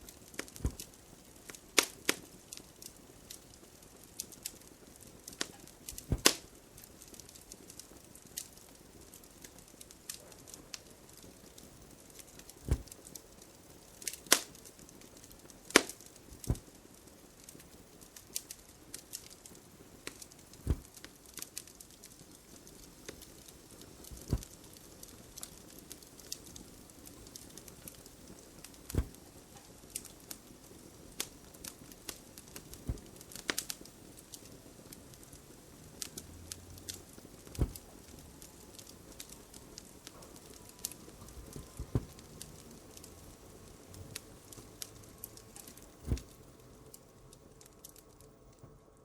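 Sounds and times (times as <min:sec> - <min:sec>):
fireplace crackling and popping: 0:00.0 - 0:49.0.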